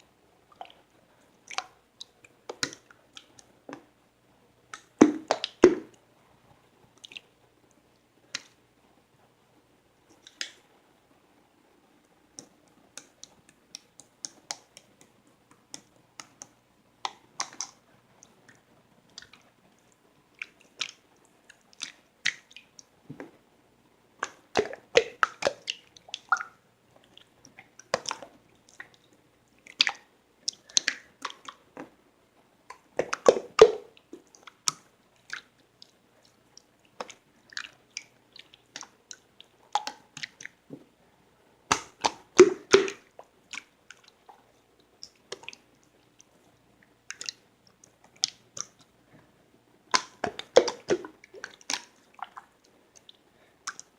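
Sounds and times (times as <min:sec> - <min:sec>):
soft clicks squishes and crackles: 0:00.5 - 0:03.9, 0:04.7 - 0:06.0, 0:06.9 - 0:08.6, 0:10.0 - 0:10.7, 0:12.0 - 0:23.4, 0:24.2 - 0:32.0, 0:32.6 - 0:41.0, 0:41.7 - 0:49.3, 0:49.9 - 0:53.9.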